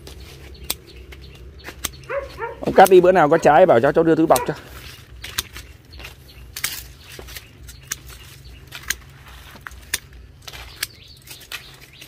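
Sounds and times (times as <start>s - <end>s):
pruning shears snipping: 0.0s - 12.0s.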